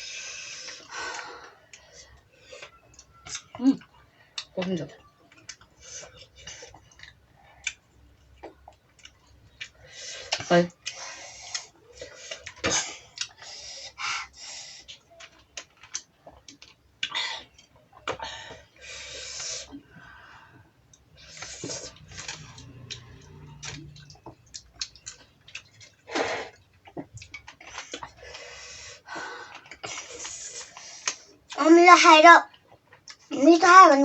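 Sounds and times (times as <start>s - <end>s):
people chewing: 0.0s - 31.6s, 32.5s - 33.3s.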